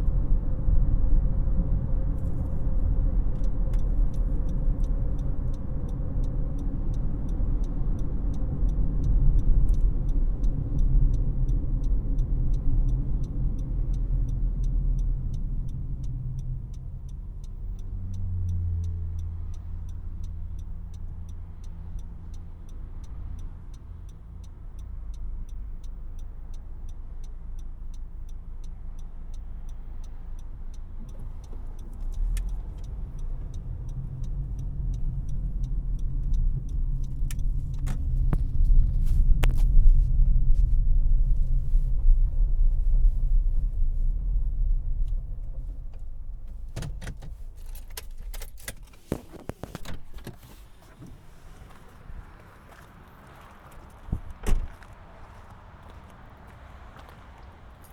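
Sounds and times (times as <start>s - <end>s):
road and tyre rumble: 0.0s - 57.9s
turn signal ticking: 0.0s - 57.9s
car engine idling: 1.2s - 57.9s.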